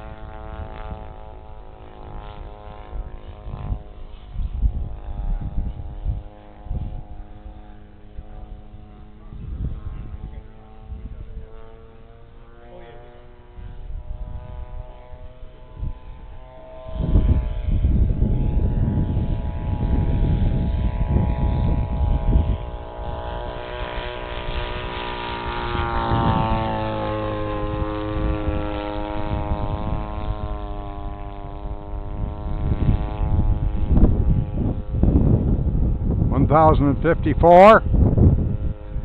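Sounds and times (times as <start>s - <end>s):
model plane motor whining: 0.0s - 39.0s
propeller wash rumbling on microphone: 0.0s - 39.0s.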